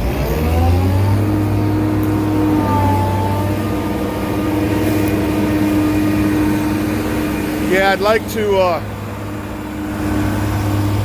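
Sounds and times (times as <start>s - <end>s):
truck engine pulling away: 0.0s - 11.0s.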